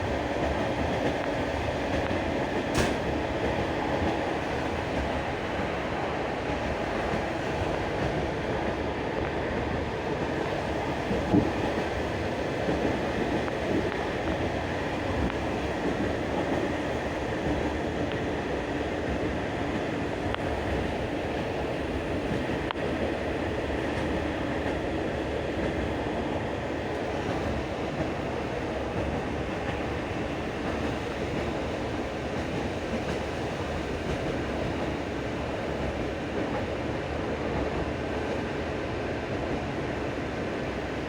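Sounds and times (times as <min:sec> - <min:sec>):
train wheels rumbling and rattling: 0:00.0 - 0:41.0.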